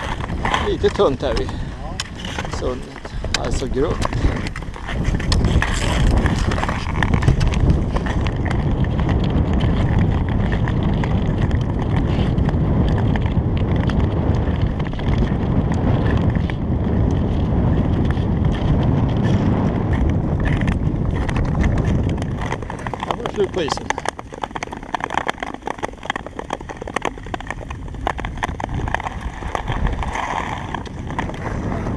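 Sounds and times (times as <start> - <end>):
skates scraping over ice: 0.0 - 31.9
wind buffeting microphone: 0.0 - 31.9.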